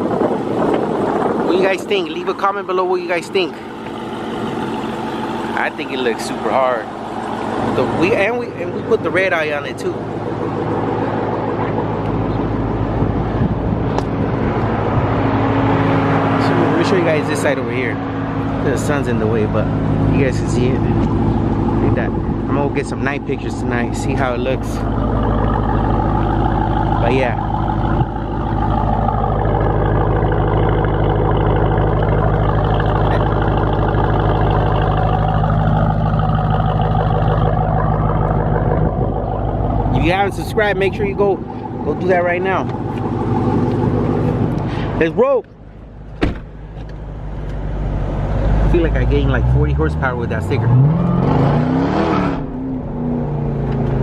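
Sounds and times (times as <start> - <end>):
vehicle engine humming: 0.0 - 54.0.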